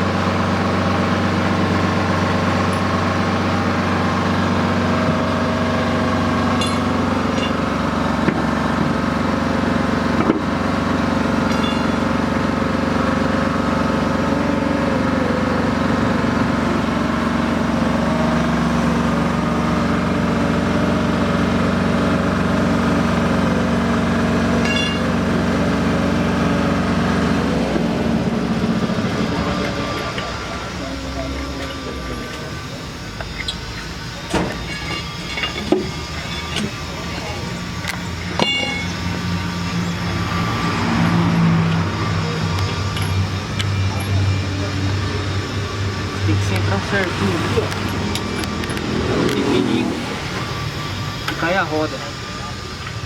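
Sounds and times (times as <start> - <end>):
heavy engine running: 0.0 - 53.0.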